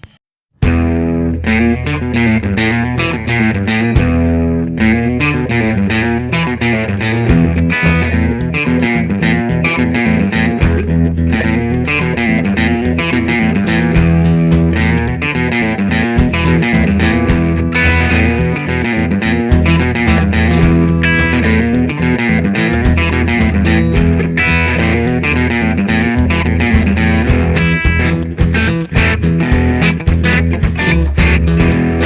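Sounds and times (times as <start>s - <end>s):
rock music: 0.6s - 32.0s.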